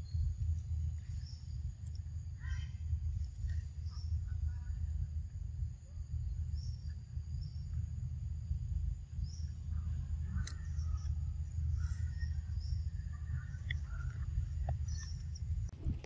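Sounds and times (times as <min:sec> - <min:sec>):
insects chirring: 0:00.0 - 0:15.7
low rumble: 0:00.0 - 0:16.0.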